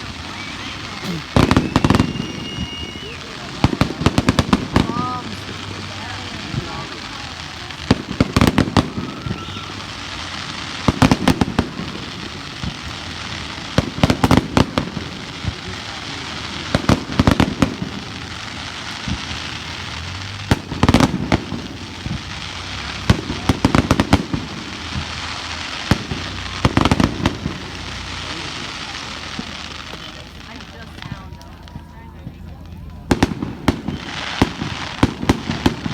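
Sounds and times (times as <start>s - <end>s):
fireworks crackling bangs: 0.0s - 35.9s.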